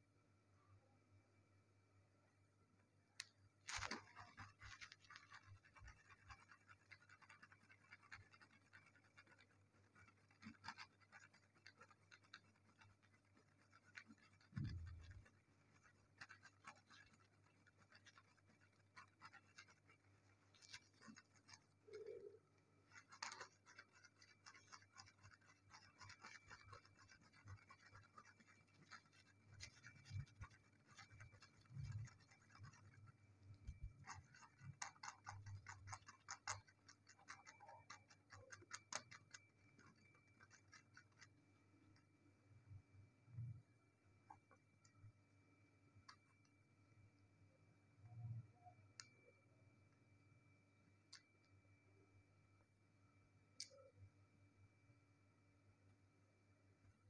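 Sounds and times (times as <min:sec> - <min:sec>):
faint ticks and scratching: 0:02.2 - 0:55.1.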